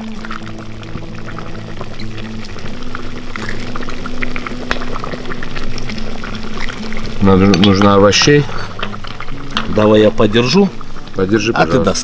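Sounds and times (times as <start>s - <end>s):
background music with low notes: 0.0s - 12.0s
liquid pouring and splashing: 0.0s - 12.0s.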